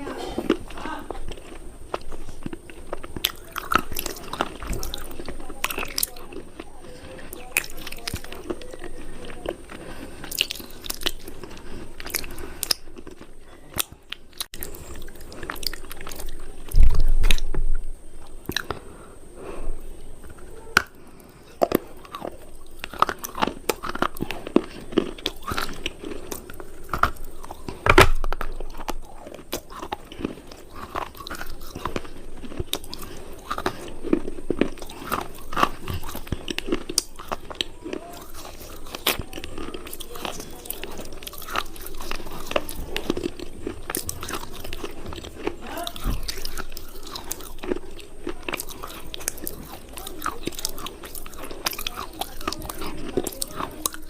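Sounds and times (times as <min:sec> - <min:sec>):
crunchy chewing: 0:00.0 - 0:54.0
mouth sounds: 0:00.0 - 0:54.0.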